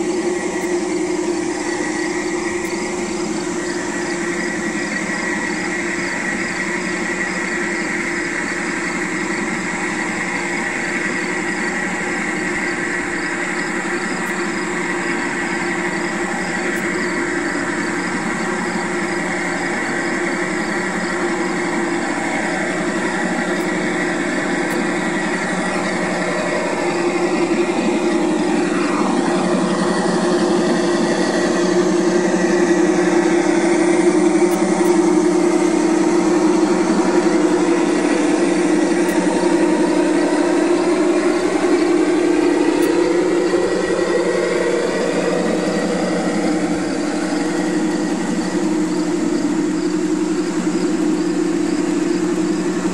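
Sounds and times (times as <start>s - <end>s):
model train running on track: 0.0s - 52.9s.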